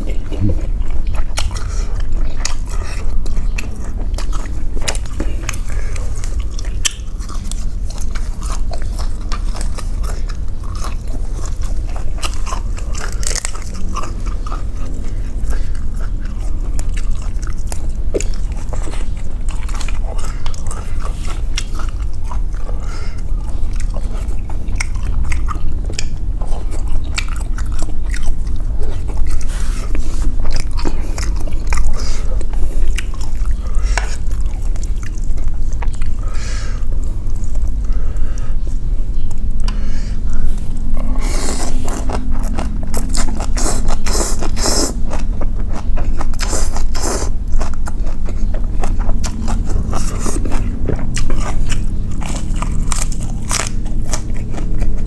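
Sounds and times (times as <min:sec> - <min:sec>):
chewing and mouth smacks: 0:00.0 - 0:55.0
low steady hum: 0:00.0 - 0:55.0.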